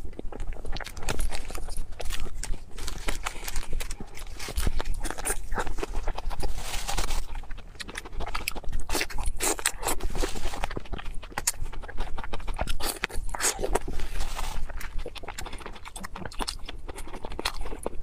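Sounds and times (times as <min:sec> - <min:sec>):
wet crackly chewing: 0:00.0 - 0:18.0.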